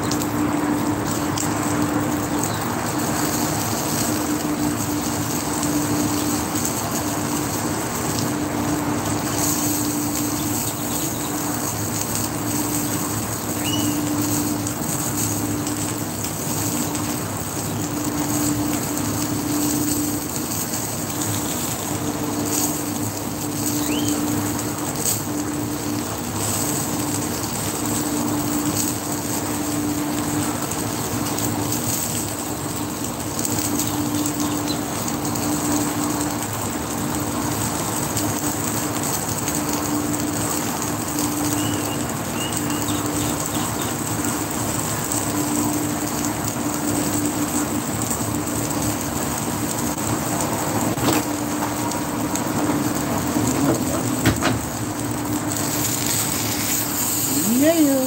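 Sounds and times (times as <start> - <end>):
meat sizzling on griddle: 0.0 - 58.0.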